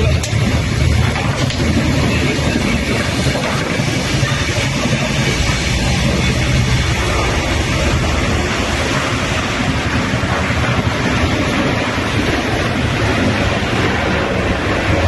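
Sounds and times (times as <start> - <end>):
helicopter turbine and rotor noise: 0.0 - 15.0
wind buffeting microphone: 0.0 - 15.0.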